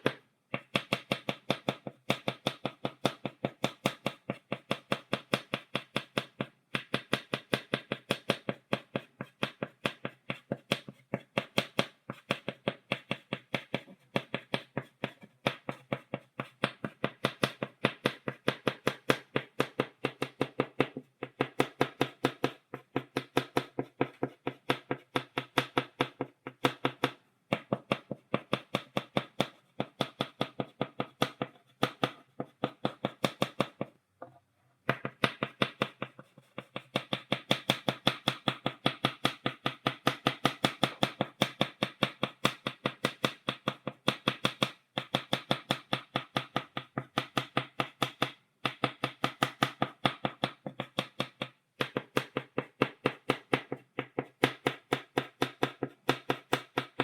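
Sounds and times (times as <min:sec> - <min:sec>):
chalk tapping on blackboard: 0:00.0 - 0:57.0.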